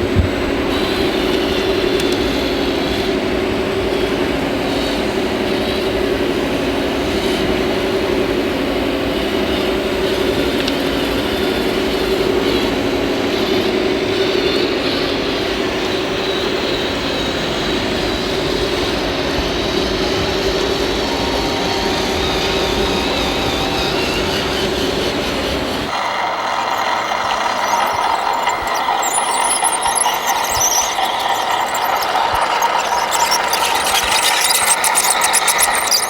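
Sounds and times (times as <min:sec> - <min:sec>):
electric motors and hydraulic pumps: 0:00.0 - 0:36.0
high whine with squealing: 0:00.0 - 0:36.0.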